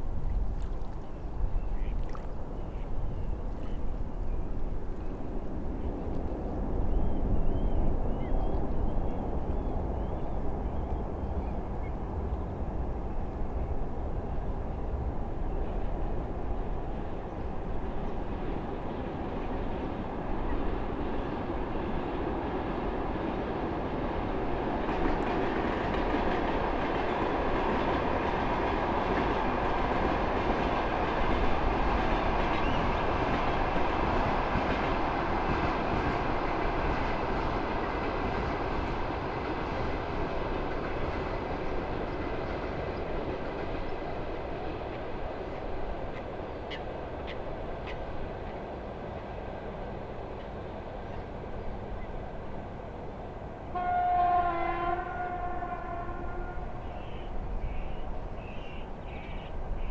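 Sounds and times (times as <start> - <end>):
train passing on railway: 0.0 - 59.9.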